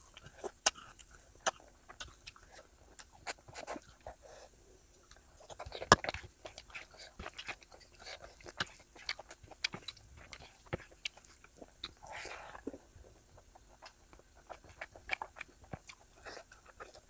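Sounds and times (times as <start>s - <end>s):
chewing rice and meat: 0.0s - 17.0s.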